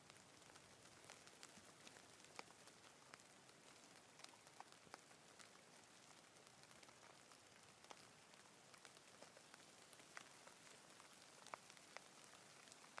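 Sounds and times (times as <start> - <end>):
light rain hissing: 0.0 - 13.0
raindrops ticking on surfaces: 0.0 - 13.0.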